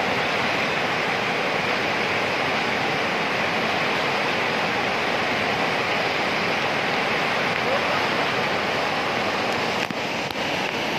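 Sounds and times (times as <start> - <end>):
river rapids rushing over rocks: 0.0 - 10.9.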